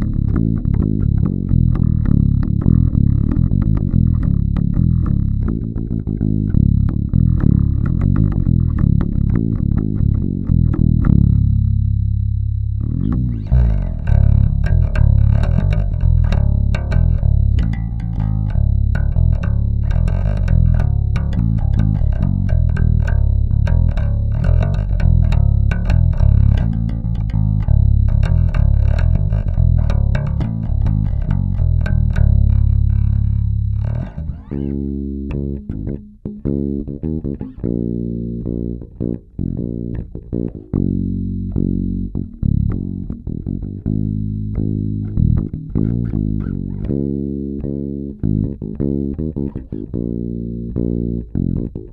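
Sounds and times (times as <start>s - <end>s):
electric bass guitar playing: 0.0s - 51.9s.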